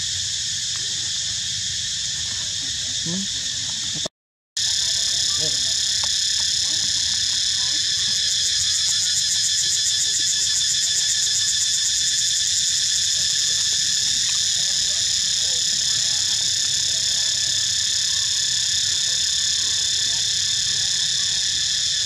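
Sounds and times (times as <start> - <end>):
insects buzzing chorus: 0.0 - 22.0.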